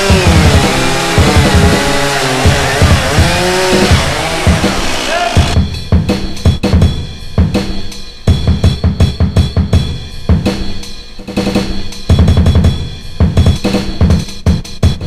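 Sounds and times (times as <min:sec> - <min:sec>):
drum kit playing busy rhythm: 0:00.0 - 0:15.0.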